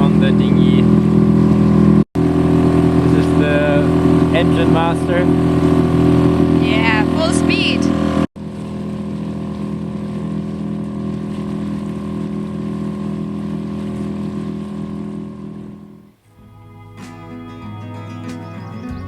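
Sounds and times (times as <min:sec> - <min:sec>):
outboard motor running: 0:00.0 - 0:16.6.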